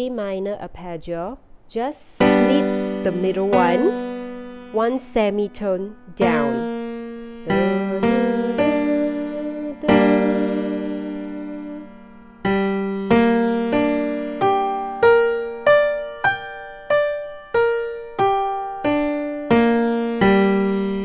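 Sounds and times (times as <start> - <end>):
piano arpeggio notes: 2.2 - 21.0.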